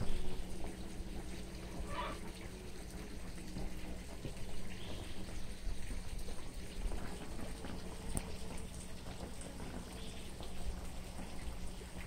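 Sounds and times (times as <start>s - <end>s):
stream water running and splashing: 0.0s - 12.0s
water droplets pattering: 0.0s - 12.0s.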